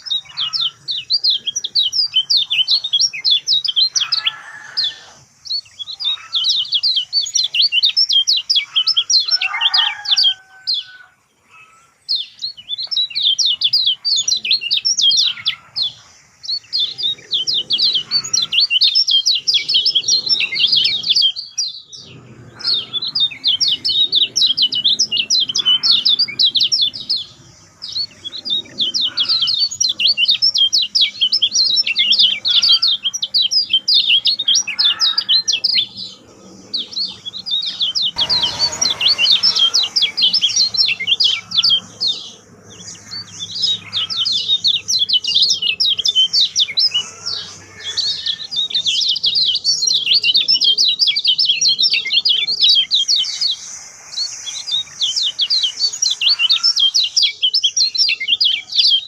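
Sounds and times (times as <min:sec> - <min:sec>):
bird twittering chatter: 0:00.0 - 0:59.0.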